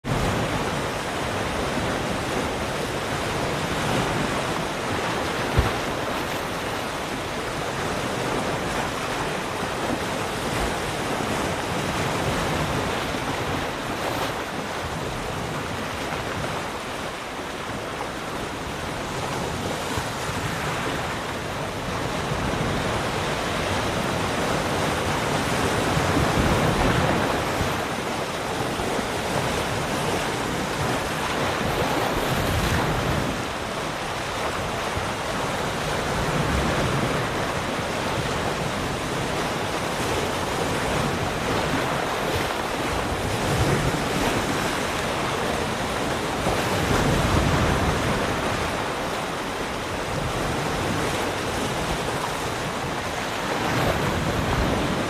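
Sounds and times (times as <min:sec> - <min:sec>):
ocean waves washing in: 0:00.0 - 0:55.0.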